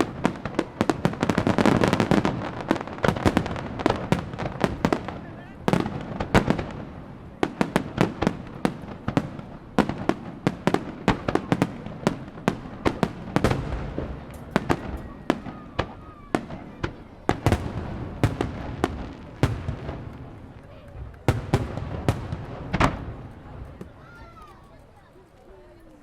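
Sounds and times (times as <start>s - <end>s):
fireworks bursting: 0.0s - 24.9s.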